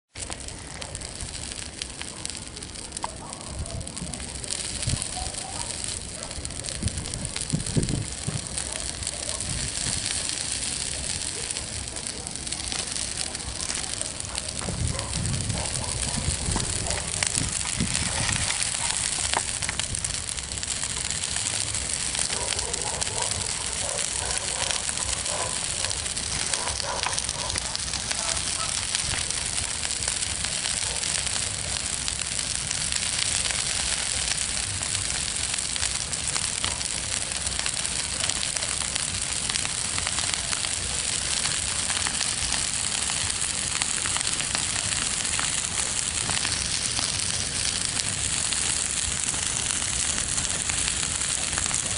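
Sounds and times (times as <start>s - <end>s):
bonfire crackling and hissing: 0.1s - 51.9s.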